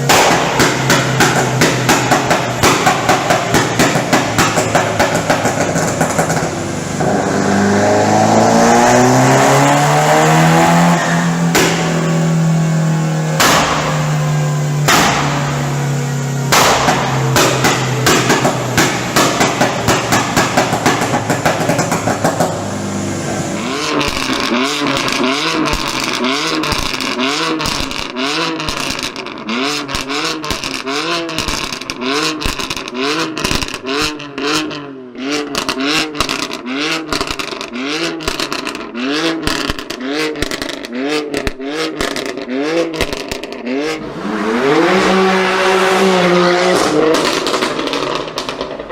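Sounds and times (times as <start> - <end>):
exhaust pops and cracks: 0.0 - 7.2, 11.4 - 22.8, 23.6 - 34.8, 35.4 - 44.2, 46.6 - 48.9
car engine revving: 0.0 - 48.9.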